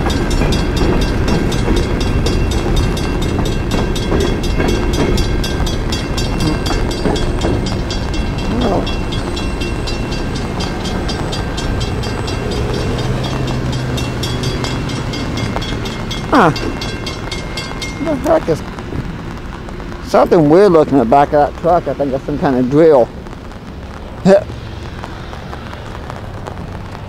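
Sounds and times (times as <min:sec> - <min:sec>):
freight train rumbling past: 0:00.0 - 0:27.0
train wheels clicking: 0:00.0 - 0:27.0.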